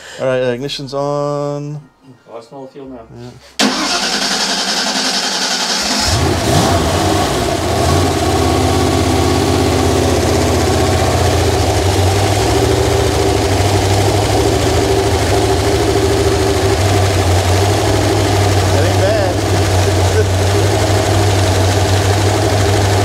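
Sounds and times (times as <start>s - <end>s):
car engine starting and idling: 3.6s - 23.0s.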